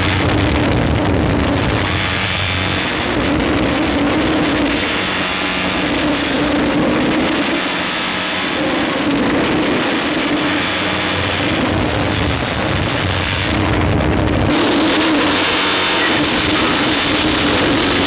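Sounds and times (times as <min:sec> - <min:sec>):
steady low drone: 0:00.0 - 0:18.0
wall of distorted noise: 0:00.0 - 0:18.0.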